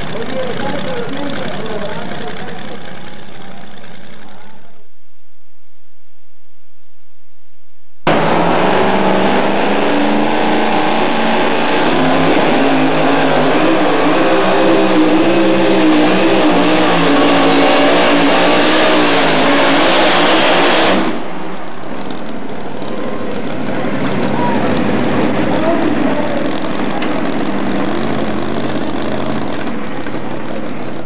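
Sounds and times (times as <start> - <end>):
truck engine at full throttle: 0.0 - 4.8, 8.1 - 31.0.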